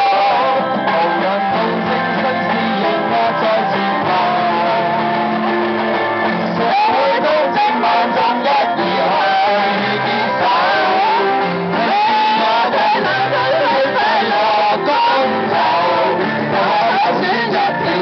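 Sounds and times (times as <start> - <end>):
electric guitar: 0.0 - 18.0
group of singers: 0.0 - 18.0.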